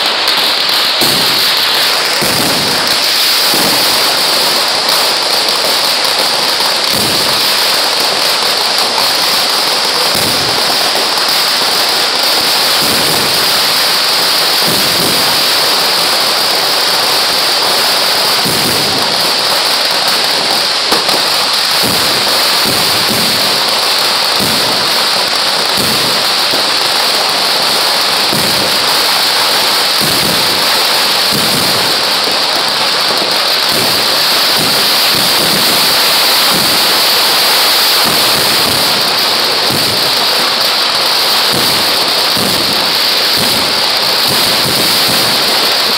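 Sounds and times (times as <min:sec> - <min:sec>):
deep fireworks booms: 0:00.0 - 0:45.9
fireworks crackling: 0:00.0 - 0:45.9.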